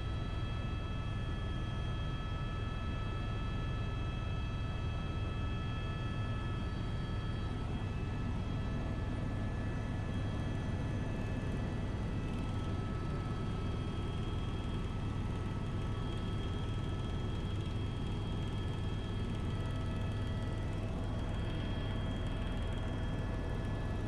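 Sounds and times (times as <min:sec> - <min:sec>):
helicopter cabin drone: 0:00.0 - 0:24.0.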